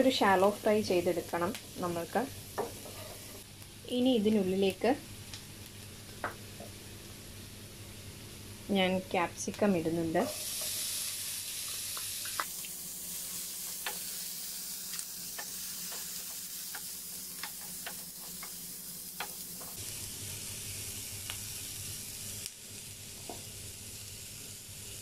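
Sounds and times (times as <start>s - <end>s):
vegetables sizzling in butter: 0.0s - 25.0s.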